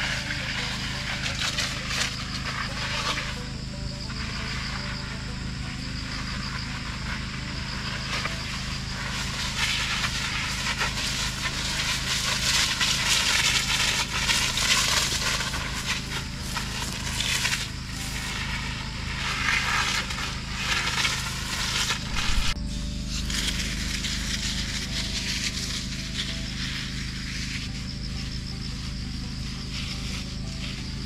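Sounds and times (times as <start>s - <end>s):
spray hissing from nozzle: 0.0s - 31.0s
spray pattering on leaves: 0.0s - 31.0s
steady low hum: 0.0s - 31.0s.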